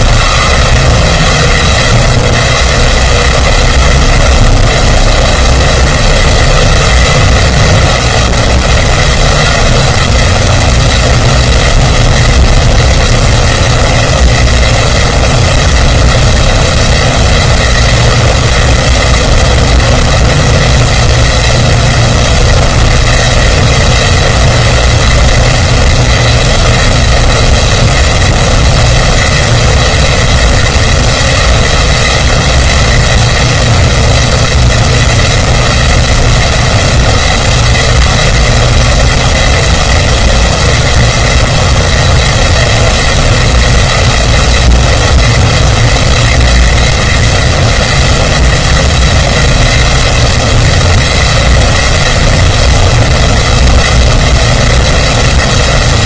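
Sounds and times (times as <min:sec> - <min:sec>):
loud mechanical drone: 0:00.0 - 0:56.0.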